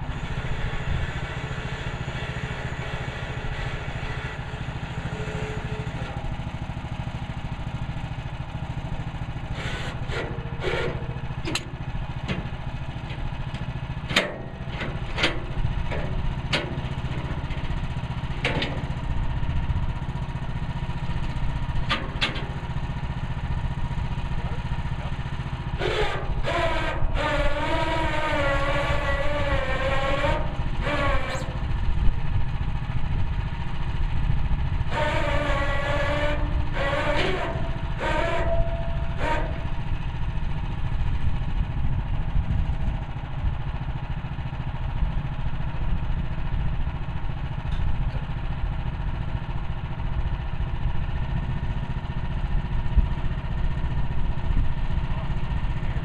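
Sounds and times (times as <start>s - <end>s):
bandsaw sawmill engine running: 0.0s - 56.0s.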